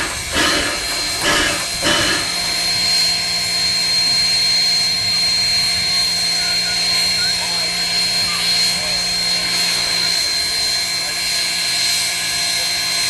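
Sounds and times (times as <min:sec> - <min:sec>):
high steady whine: 0:00.0 - 0:13.0
steam hissing: 0:00.0 - 0:13.0
steam locomotive puffs: 0:00.0 - 0:13.0.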